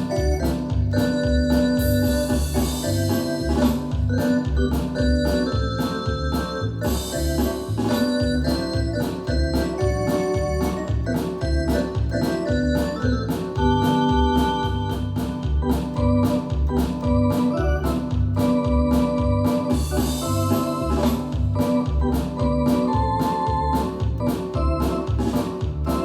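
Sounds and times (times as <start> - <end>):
bass line: 0.0 - 26.0
steady drum beat: 0.0 - 26.0
synthesizer organ chords: 0.0 - 26.0.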